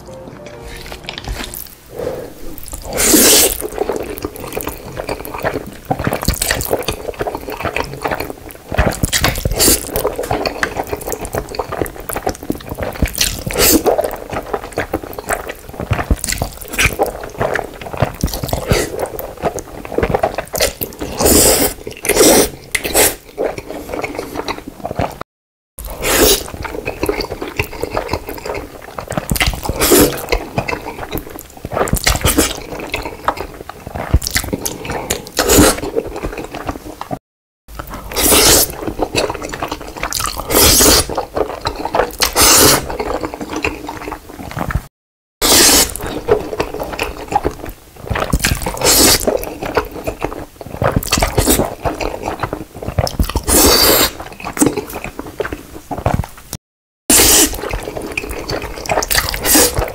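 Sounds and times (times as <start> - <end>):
chewing: 0.4 - 25.2, 25.8 - 59.9
wet noodle slurps: 0.7 - 25.2, 25.8 - 37.2, 37.8 - 56.3, 57.1 - 59.9.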